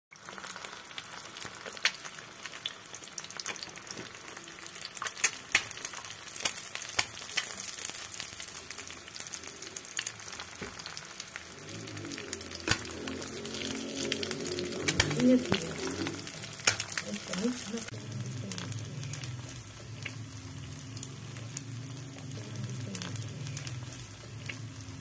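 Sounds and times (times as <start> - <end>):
egg sizzling in oil: 0.2 - 25.0
oil popping and crackling: 0.2 - 25.0.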